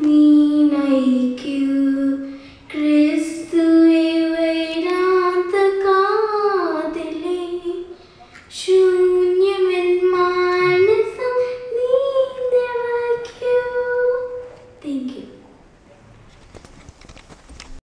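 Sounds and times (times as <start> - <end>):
girl singing: 0.0 - 15.4.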